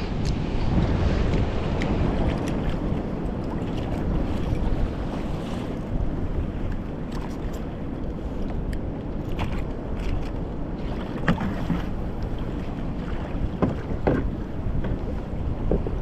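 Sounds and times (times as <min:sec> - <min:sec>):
water slapping against kayak: 0:00.0 - 0:16.0
wind buffeting microphone: 0:00.0 - 0:16.0.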